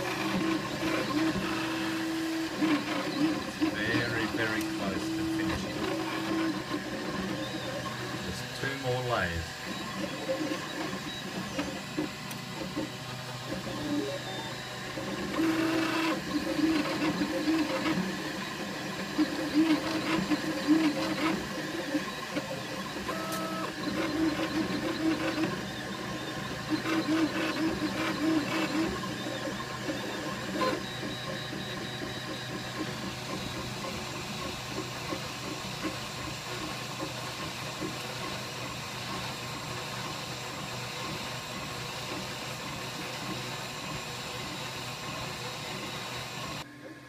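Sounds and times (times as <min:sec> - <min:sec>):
stepper motors whining: 0:00.0 - 0:41.7.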